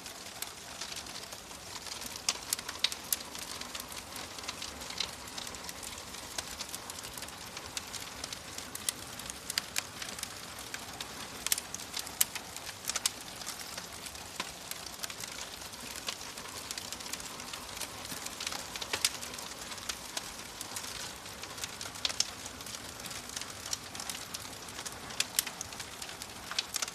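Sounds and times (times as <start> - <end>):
wood fire crackling and popping: 0.0 - 26.9.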